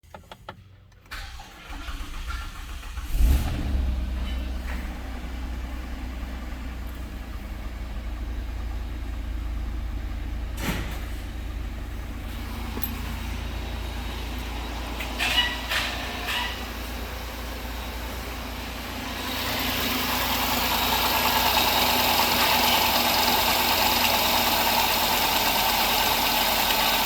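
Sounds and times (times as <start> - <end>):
car engine cranking and idling: 0.0 - 27.0.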